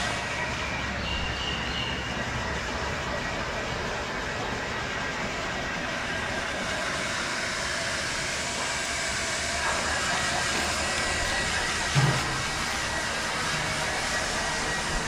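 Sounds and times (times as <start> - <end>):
blow dryer hissing: 0.0 - 15.0.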